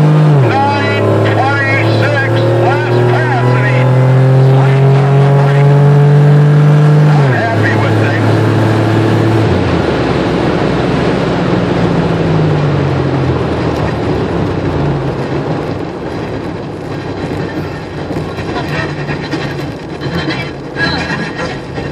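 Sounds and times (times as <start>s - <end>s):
car engine running low: 0.0s - 21.9s
road and tyre rumble: 0.0s - 21.9s.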